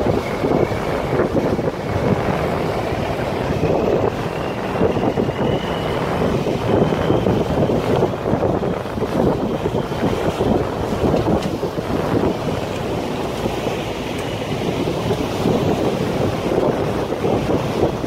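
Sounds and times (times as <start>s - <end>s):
river water rushing along hull: 0.0s - 18.0s
wind buffeting microphone: 0.0s - 18.0s.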